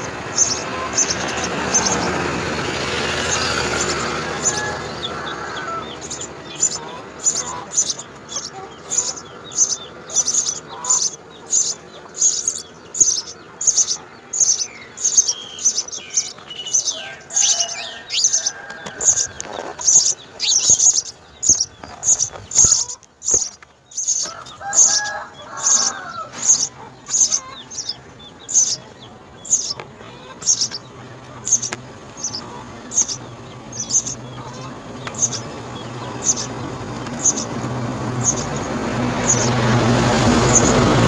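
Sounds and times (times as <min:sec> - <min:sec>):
lower fuller bird calls: 0:00.0 - 0:41.0
sparrows chirping: 0:00.0 - 0:41.0.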